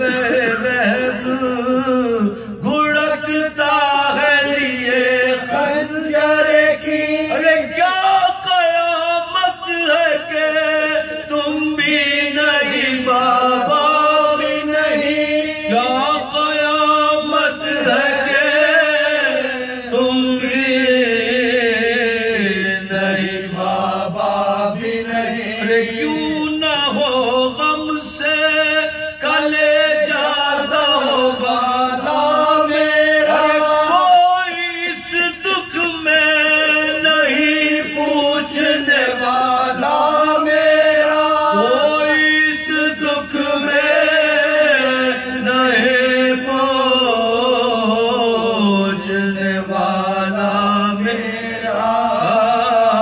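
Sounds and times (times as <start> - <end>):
men chanting a lament: 0.0 - 53.0.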